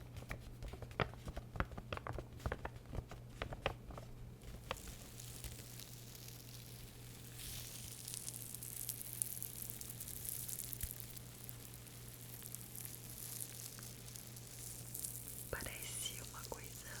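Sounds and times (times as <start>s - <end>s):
crackling and scratching at microphone: 0.0s - 17.0s.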